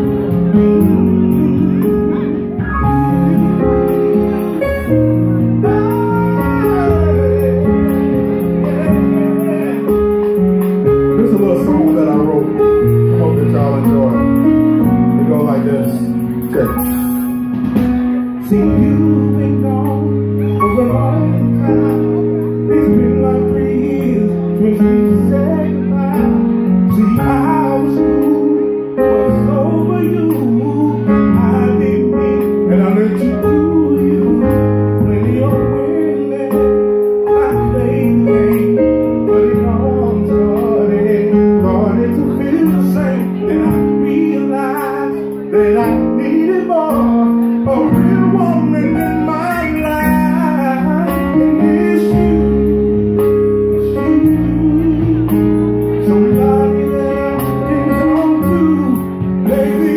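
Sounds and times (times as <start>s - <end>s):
moving bass line: 0.0s - 59.9s
sustained keyboard chords: 0.0s - 59.9s.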